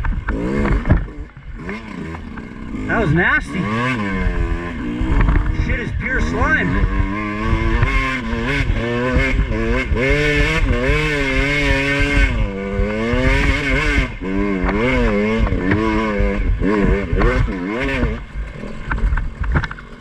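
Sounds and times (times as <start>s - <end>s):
two-stroke dirt bike engine revving: 0.0s - 20.0s.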